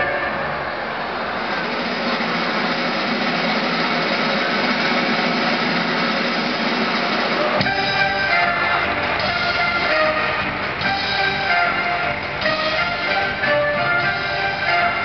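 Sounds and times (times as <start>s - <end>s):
live circus band music: 0.0s - 15.0s.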